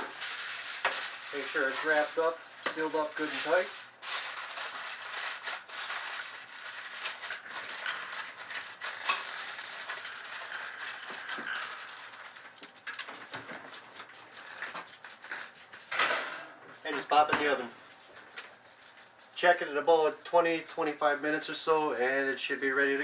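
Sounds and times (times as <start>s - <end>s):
aluminum foil crinkling: 0.0s - 16.3s, 17.0s - 22.2s.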